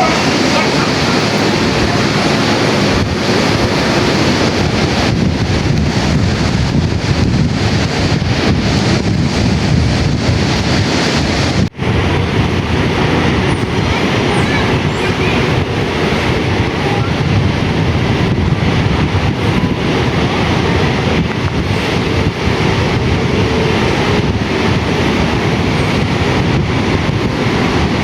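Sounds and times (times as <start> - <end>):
strong wind buffeting microphone: 0.0 - 28.0
surf rushing: 0.0 - 28.0.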